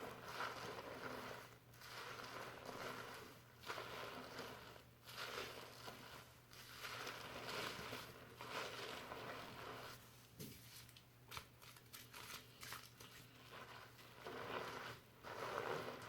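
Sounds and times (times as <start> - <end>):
fingers scrubbing shampoo lather: 0.0 - 10.1, 10.7 - 16.0.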